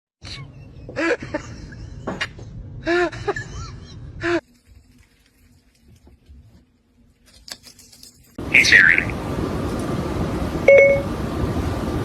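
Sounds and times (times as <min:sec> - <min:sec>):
steady background noise: 0:00.4 - 0:12.0.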